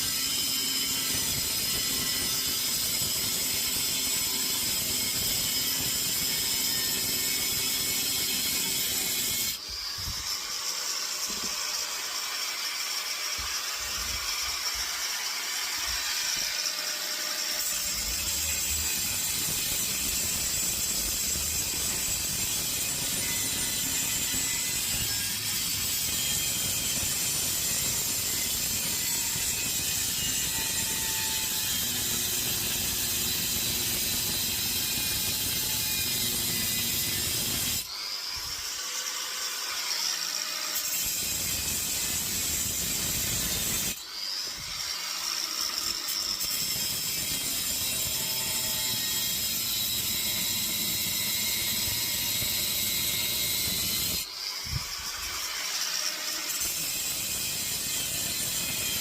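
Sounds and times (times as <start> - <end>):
grinder whine spinning freely: 0.0 - 56.8
angle grinder cutting metal: 0.0 - 59.0.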